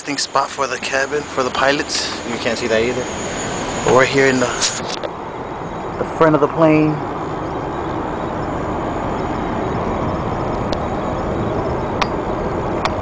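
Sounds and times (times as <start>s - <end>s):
airplane cabin rushing noise: 0.0s - 13.0s.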